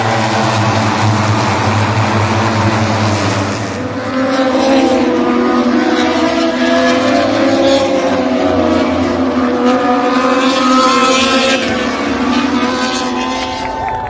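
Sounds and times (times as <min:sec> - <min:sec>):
race motorcycles at high revs: 0:00.0 - 0:14.0.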